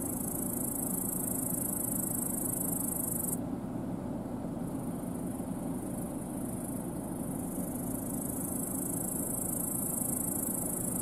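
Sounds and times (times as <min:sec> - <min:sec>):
high continuous hiss: 0:00.0 - 0:11.0.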